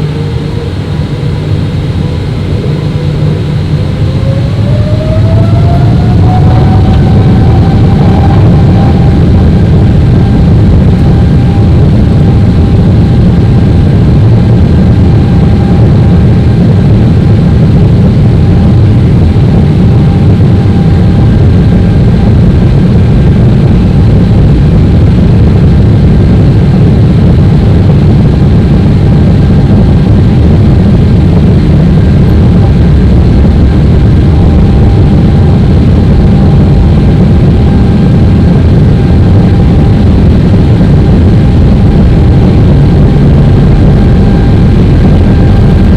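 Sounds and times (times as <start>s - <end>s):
jet engine and airflow rumble: 0.0s - 45.9s.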